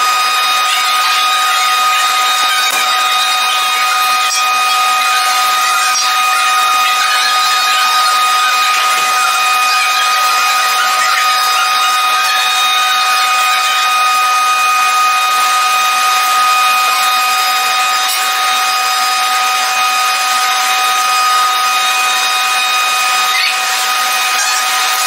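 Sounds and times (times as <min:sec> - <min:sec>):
metal cutting machine whining: 0:00.0 - 0:25.0.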